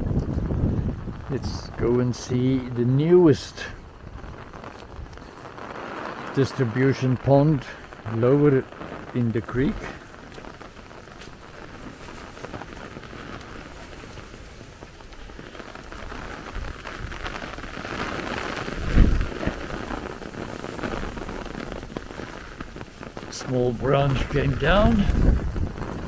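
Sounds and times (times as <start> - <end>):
rain pattering on an umbrella: 0.0 - 26.0.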